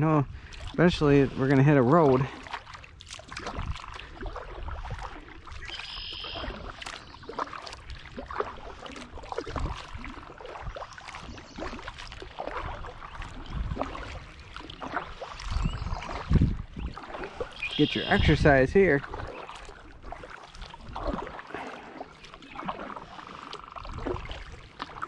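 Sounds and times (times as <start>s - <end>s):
kayak paddle splashing: 0.0s - 25.0s.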